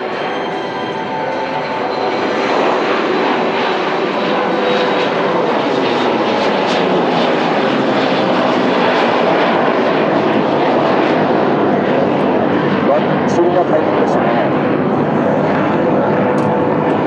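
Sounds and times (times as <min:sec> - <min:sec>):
loud jet engine noise: 0:00.0 - 0:17.0.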